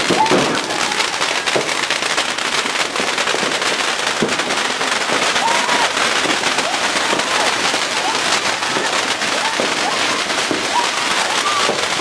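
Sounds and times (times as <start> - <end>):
fireworks crackling rapidly: 0.0 - 12.0.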